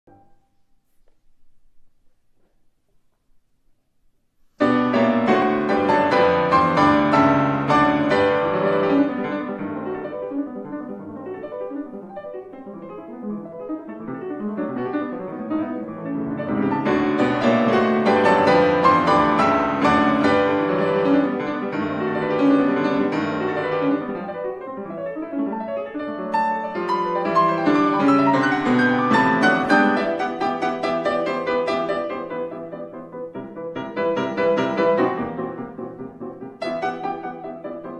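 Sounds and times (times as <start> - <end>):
grand piano classical piece: 0.1 - 37.9.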